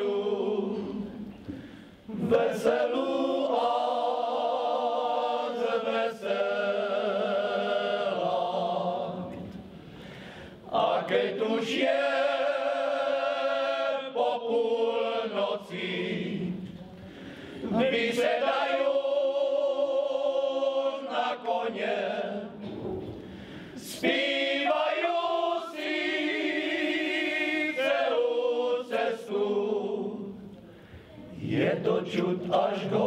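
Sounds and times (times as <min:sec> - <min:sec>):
men's choir singing a cappella: 0:00.0 - 0:30.5, 0:31.3 - 0:33.0.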